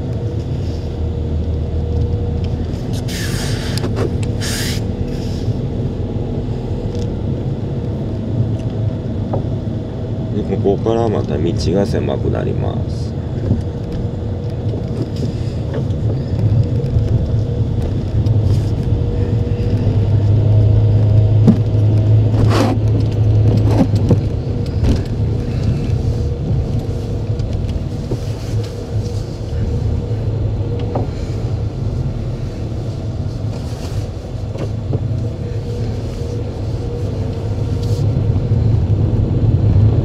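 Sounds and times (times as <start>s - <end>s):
car engine and road drone: 0.0s - 40.0s.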